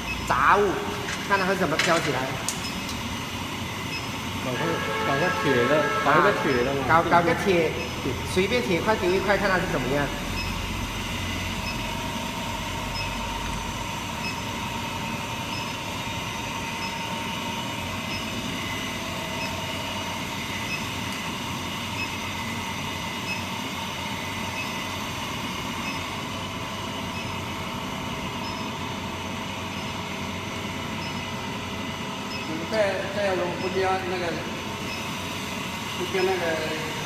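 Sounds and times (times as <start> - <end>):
induction heater hum and rush: 0.0 - 37.0.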